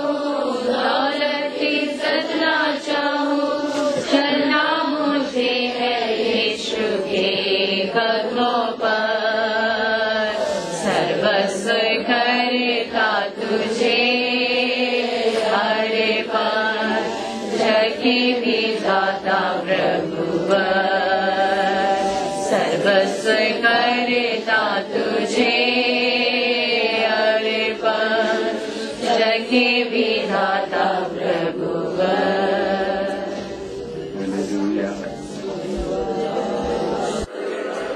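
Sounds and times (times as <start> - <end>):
voices singing a hymn: 0.0 - 37.9.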